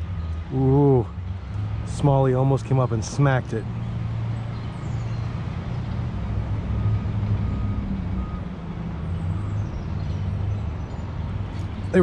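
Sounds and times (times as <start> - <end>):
heavy vehicle engine rumble: 0.0 - 12.0.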